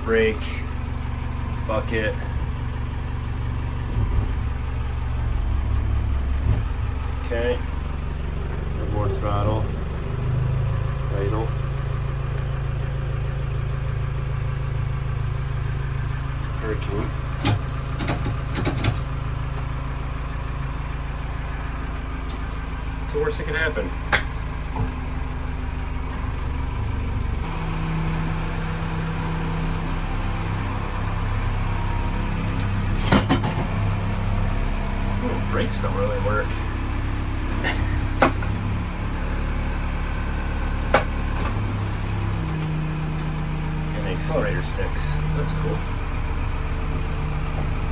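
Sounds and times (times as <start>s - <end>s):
loader engine idling: 0.0s - 47.9s.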